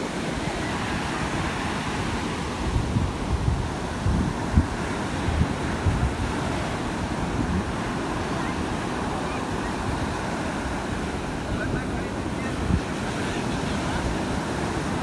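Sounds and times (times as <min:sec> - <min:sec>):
sea surf rushing: 0:00.0 - 0:15.0
wind buffeting microphone: 0:00.1 - 0:15.0.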